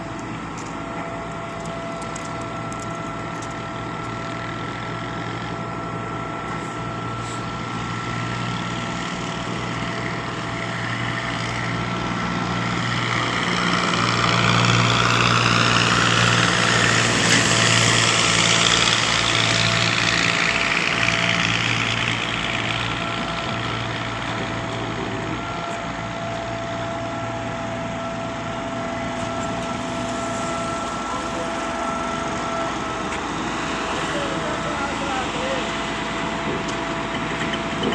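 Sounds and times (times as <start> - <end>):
high whine: 0.0 - 37.3
diesel engine running: 0.0 - 37.9.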